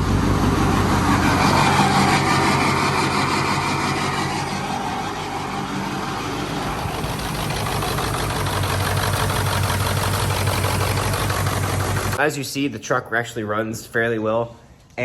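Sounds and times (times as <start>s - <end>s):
diesel engine idling: 0.0s - 12.2s.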